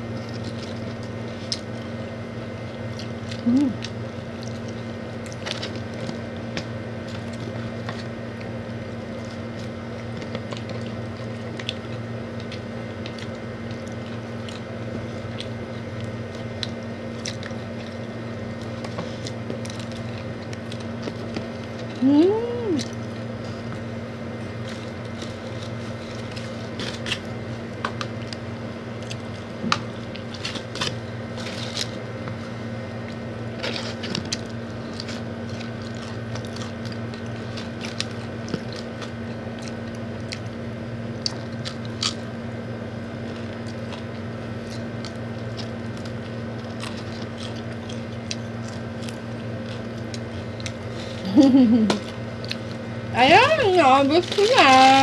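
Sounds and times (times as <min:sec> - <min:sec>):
crunchy bites and chewing: 0:00.0 - 0:22.1, 0:22.8 - 0:53.1
steady low hum: 0:00.0 - 0:55.0.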